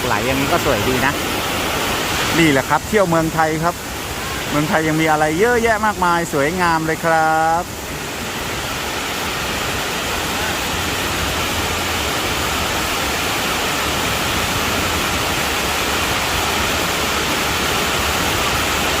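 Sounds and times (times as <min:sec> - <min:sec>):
waterfall rushing over rock: 0:00.0 - 0:19.0.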